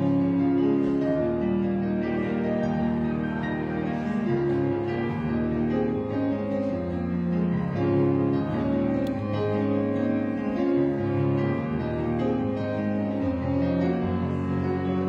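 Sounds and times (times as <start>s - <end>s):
slow keyboard music: 0.0s - 15.0s.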